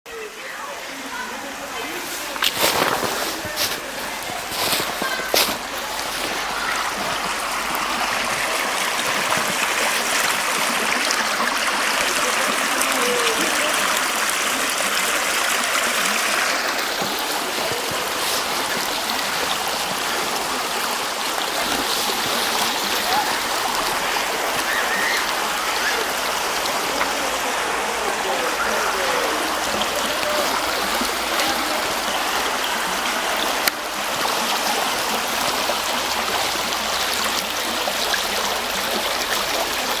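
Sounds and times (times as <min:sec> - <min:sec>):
river water rushing: 0:00.1 - 0:40.0.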